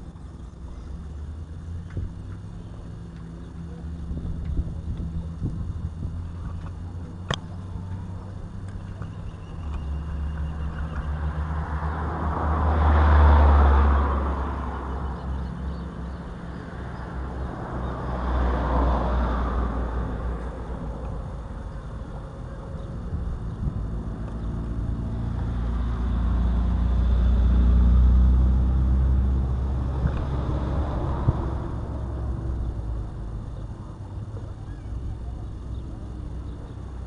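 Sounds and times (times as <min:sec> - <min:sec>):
vehicles passing by: 0:00.0 - 0:37.0.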